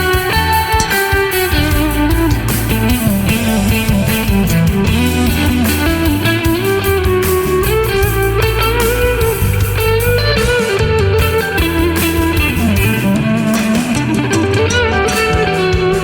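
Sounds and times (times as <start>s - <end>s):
bass line: 0.0s - 16.0s
bluesy electric guitar lead: 0.0s - 16.0s
drums: 0.0s - 16.0s.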